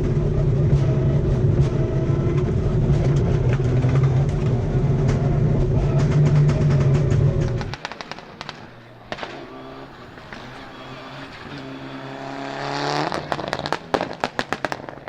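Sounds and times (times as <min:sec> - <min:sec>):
anti-lag bangs and crackles: 0:00.0 - 0:10.4, 0:13.1 - 0:15.0
rally car engine revving: 0:00.0 - 0:15.0.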